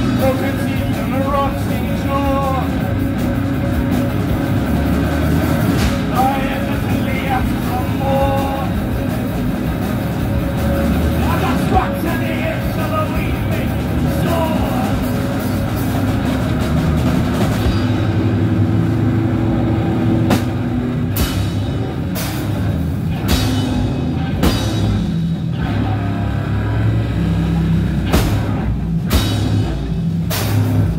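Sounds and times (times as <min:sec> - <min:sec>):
drum and cymbal hits: 0:00.0 - 0:25.6, 0:27.4 - 0:30.9
live rock band playing: 0:00.0 - 0:30.9.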